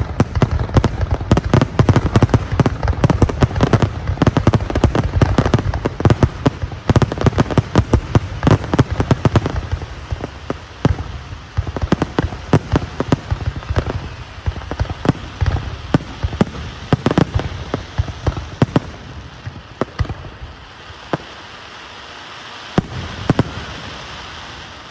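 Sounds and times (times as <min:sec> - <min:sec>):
fireworks bangs: 0:00.0 - 0:21.4, 0:22.7 - 0:24.9.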